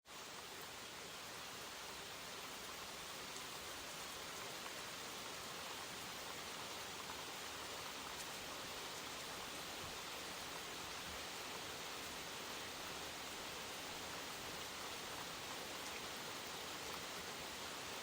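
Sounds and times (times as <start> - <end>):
rain falling in woodland: 0.1 - 18.0.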